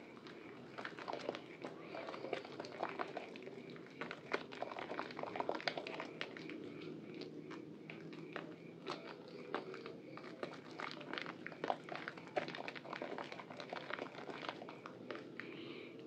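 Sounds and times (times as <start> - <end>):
wet soap squelching: 0.1 - 15.6.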